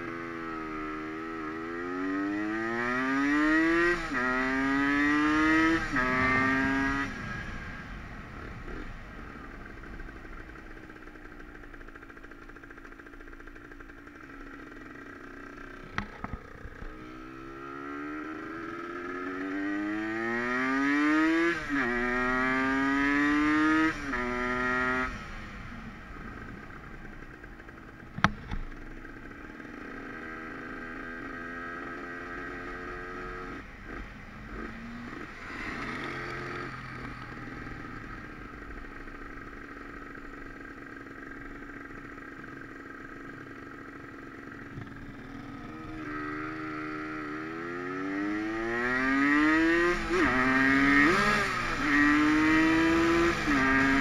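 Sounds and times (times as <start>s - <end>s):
two-stroke engine accelerating: 0.0s - 54.0s.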